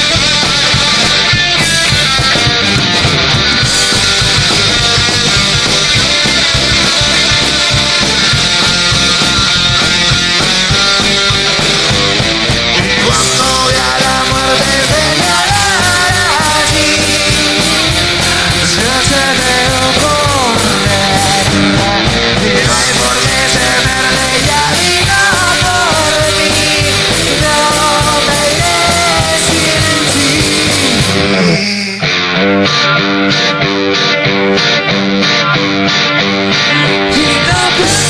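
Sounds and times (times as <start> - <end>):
instrumental rock band: 0.0 - 38.0.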